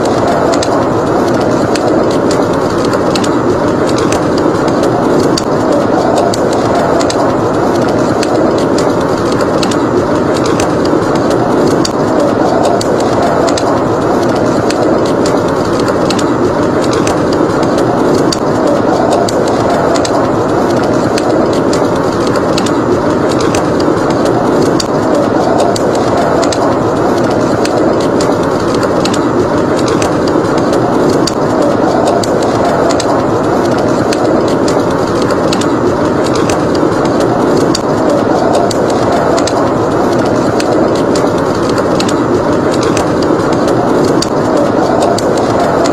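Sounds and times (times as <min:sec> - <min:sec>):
blizzard wind rushing: 0:00.0 - 0:45.9
wood fire crackling: 0:00.0 - 0:45.9.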